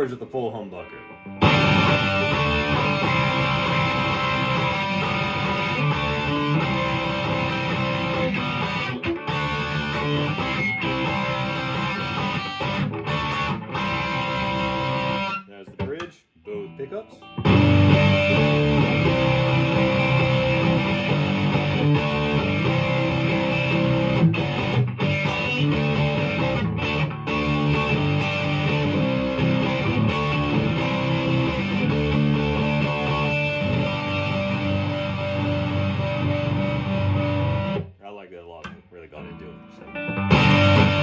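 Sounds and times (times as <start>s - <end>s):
electric guitar chords strummed: 0.7s - 37.9s, 38.5s - 41.0s.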